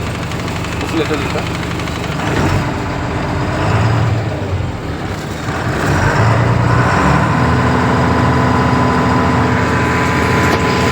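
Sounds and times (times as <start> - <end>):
diesel truck engine running: 0.0 - 10.9.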